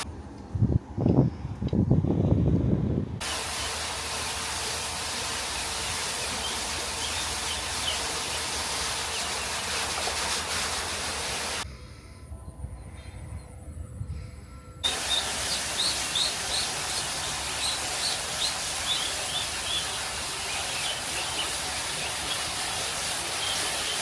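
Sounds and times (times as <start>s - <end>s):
steady outdoor hiss: 0.0s - 0.4s, 3.2s - 24.0s.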